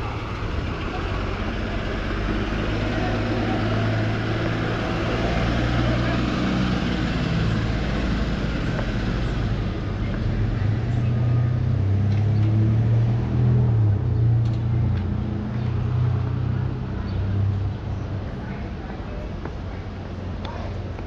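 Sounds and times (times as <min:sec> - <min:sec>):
street traffic noise: 0:00.0 - 0:21.0
truck engine hum: 0:00.0 - 0:21.0.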